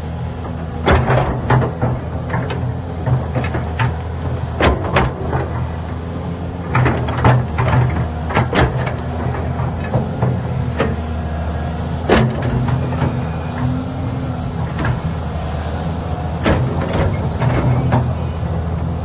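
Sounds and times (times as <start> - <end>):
excavator engine running: 0.0 - 19.0
metallic clanks and knocks: 0.4 - 11.2, 12.0 - 15.5, 16.4 - 18.5.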